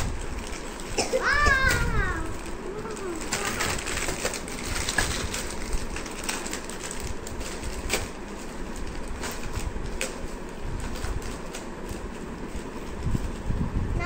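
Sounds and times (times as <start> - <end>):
plastic wrappers crinkling and rustling: 0.0 - 13.6.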